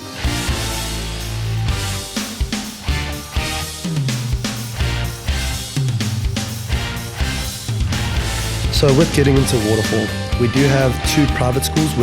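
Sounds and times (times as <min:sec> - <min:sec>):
rock backing track: 0:00.0 - 0:10.8.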